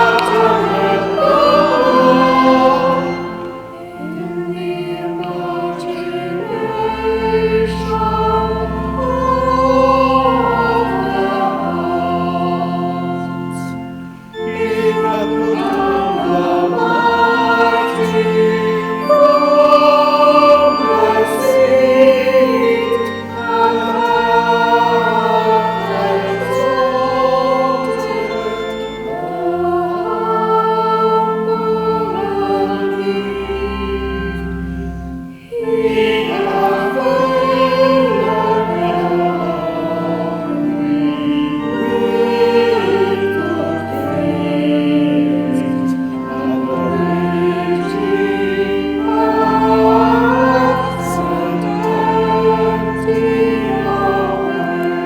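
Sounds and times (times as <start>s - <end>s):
church choir singing: 0.0s - 55.0s
organ low sustained notes: 0.0s - 55.0s.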